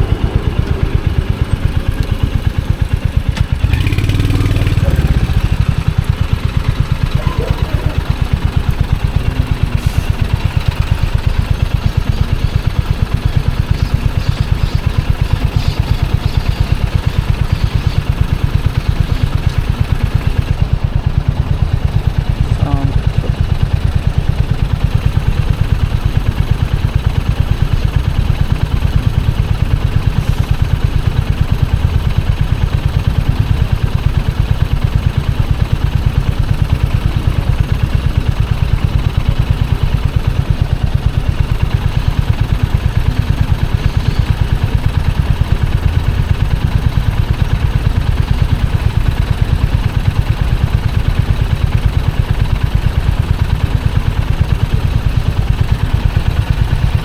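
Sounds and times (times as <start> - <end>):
motorcycle engine running steadily: 0.0 - 57.0.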